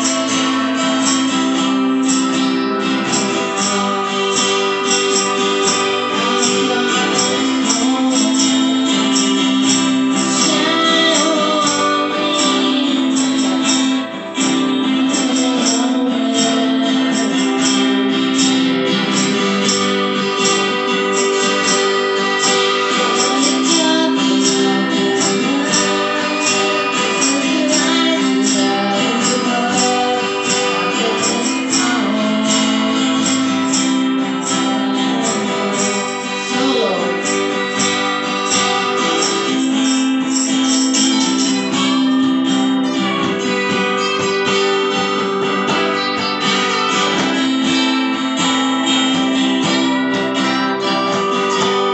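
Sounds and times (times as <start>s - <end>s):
woman singing: 0.0s - 42.1s
acoustic guitars strummed: 0.0s - 51.9s.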